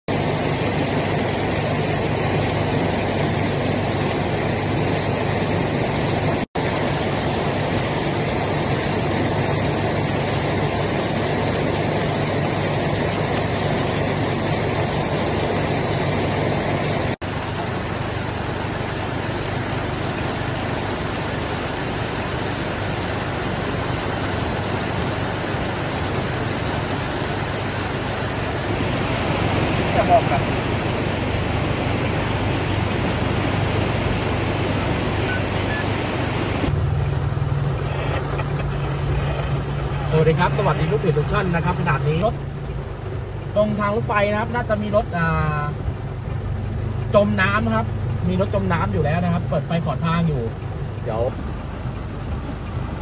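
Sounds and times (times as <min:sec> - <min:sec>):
heavy rain pouring: 0:00.0 - 0:53.0
low engine rumble: 0:00.1 - 0:53.0
wheels splashing through water: 0:00.1 - 0:53.0.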